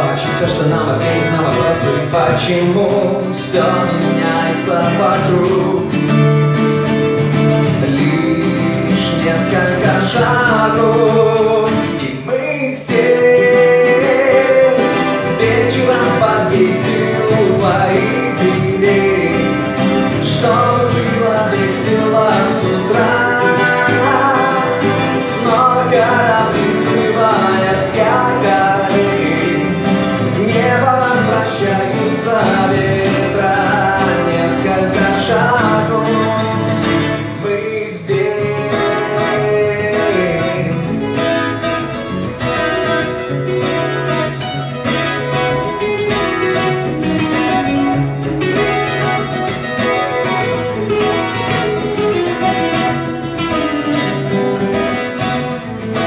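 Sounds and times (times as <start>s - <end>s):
acoustic guitar lead melody: 0.0s - 56.0s
acoustic guitar strumming: 0.0s - 56.0s.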